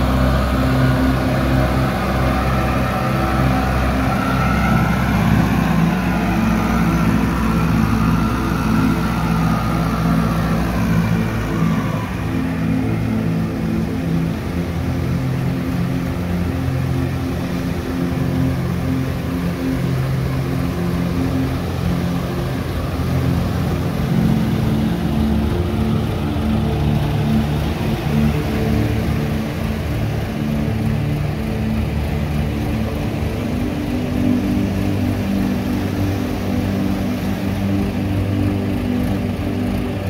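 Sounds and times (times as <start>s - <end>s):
motorboat engine running: 0.0s - 40.0s.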